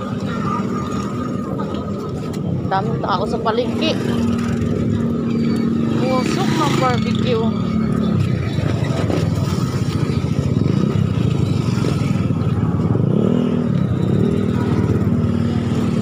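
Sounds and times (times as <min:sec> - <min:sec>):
motorcycle engines in traffic: 0:00.0 - 0:16.0.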